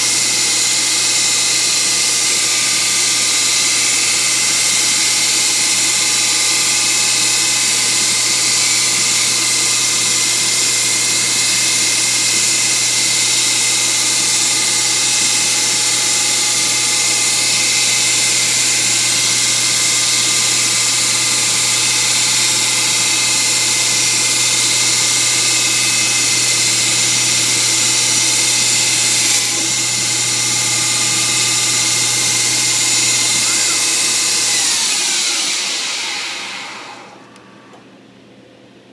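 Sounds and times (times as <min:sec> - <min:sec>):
lathe machine whine: 0:00.0 - 0:38.2.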